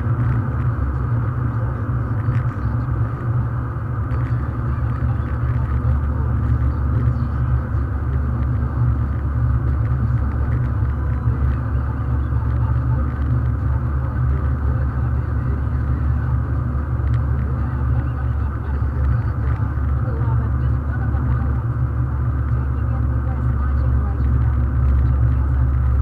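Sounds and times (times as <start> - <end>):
car cabin road and engine rumble: 0.0 - 26.0.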